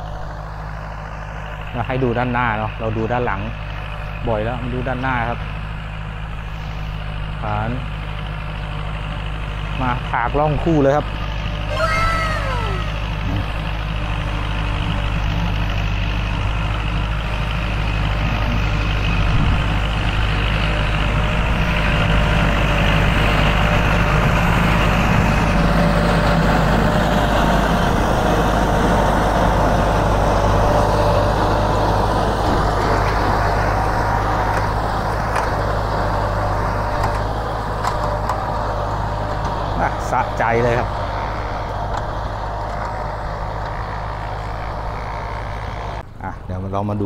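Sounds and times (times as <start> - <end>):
tractor diesel engine under load: 0.0 - 47.0.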